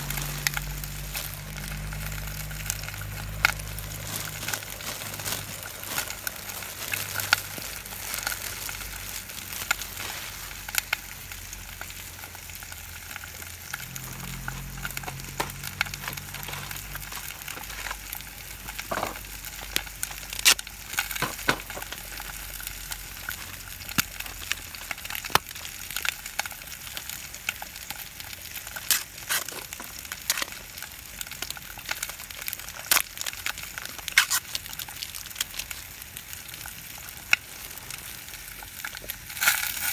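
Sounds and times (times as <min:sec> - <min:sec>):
fire popping and crackling: 0:00.0 - 0:39.9
food sizzling over campfire: 0:00.0 - 0:39.9.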